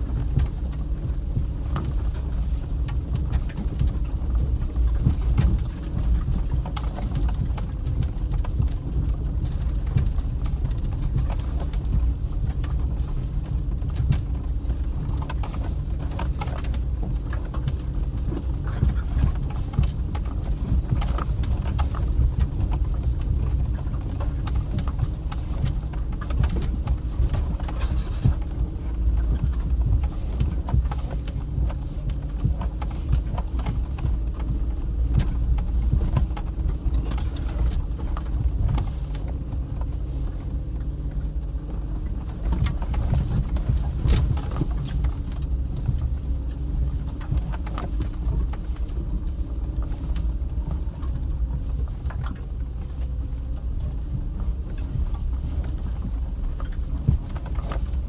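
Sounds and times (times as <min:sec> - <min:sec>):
rattling and knocks from bumps: 0:00.0 - 0:58.0
vehicle engine running at low revs: 0:00.0 - 0:58.0.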